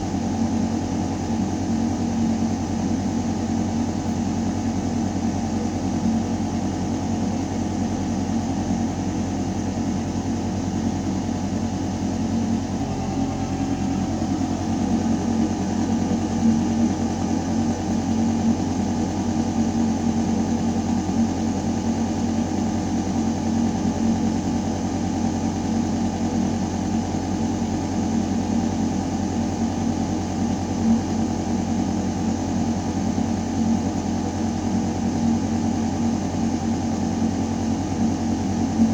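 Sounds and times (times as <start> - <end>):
ventilation system hum: 0.0 - 38.9.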